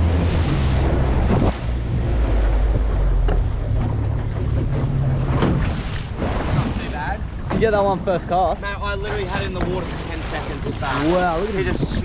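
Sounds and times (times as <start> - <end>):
low motor hum: 0.0 - 12.0
water sloshing against boat hull: 0.0 - 12.0
wind buffeting microphone: 0.0 - 12.0.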